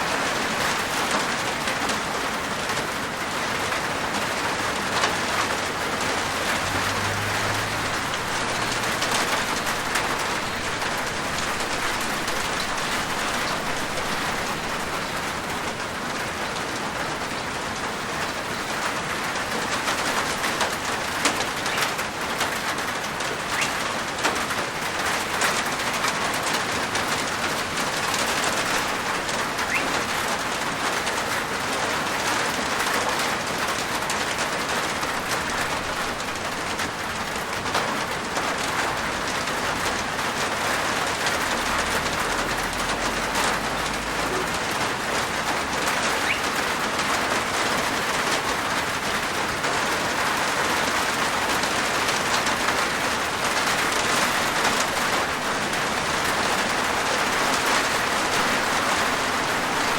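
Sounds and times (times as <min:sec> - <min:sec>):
rain on a rooftop: 0:00.0 - 0:59.9.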